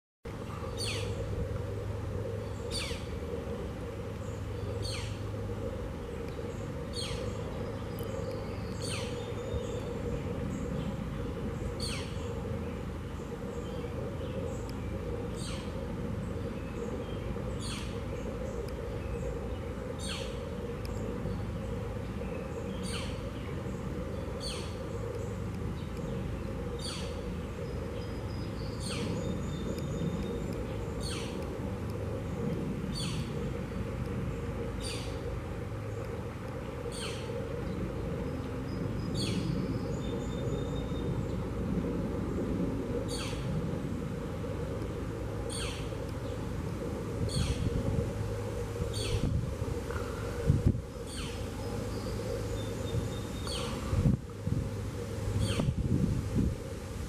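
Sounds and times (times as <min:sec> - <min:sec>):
low background hum: 0:00.3 - 0:57.0.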